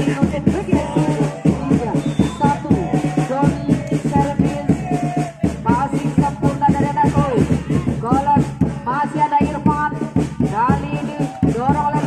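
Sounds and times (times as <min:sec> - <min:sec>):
busy music beat: 0:00.0 - 0:12.0.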